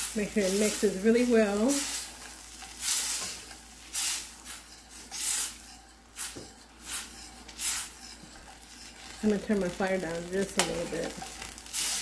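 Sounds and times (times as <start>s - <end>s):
sauce sizzling in a skillet: 0.0s - 12.0s.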